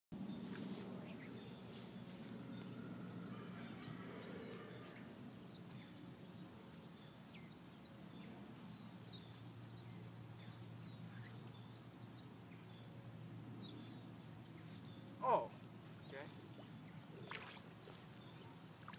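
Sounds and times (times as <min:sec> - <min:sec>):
small birds chirping: 0:00.2 - 0:18.9.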